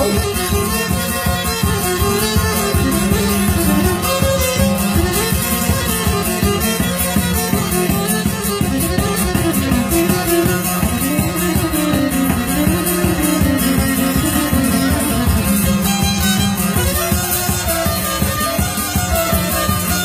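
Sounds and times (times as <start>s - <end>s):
fiddle melody: 0.0s - 20.0s
plucked string accompaniment: 0.0s - 20.0s.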